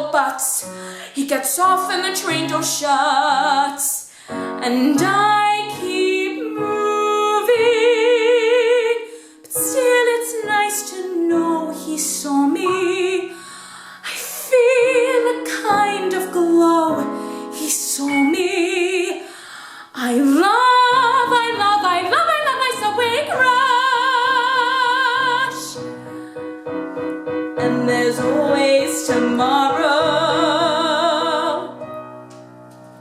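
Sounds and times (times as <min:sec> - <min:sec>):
girl singing with vibrato: 0:00.0 - 0:13.4, 0:14.1 - 0:19.3, 0:19.9 - 0:25.8, 0:27.6 - 0:31.8
piano: 0:00.0 - 0:33.0.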